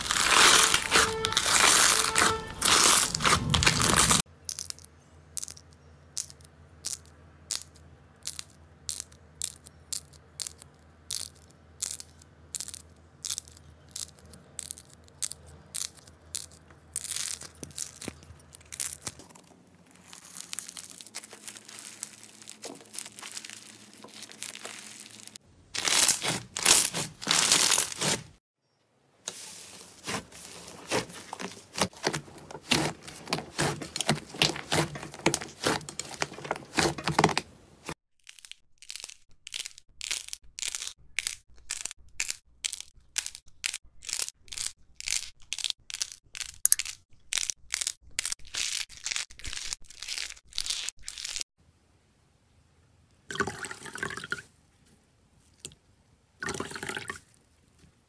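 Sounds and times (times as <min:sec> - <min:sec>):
crunchy slime crackling: 0:00.0 - 0:04.7, 0:06.2 - 0:28.4, 0:29.4 - 0:51.4.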